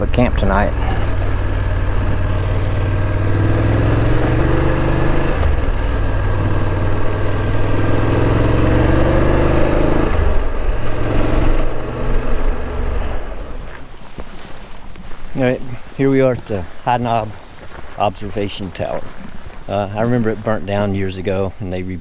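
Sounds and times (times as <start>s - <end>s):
motorcycle engine accelerating: 0.0s - 21.2s.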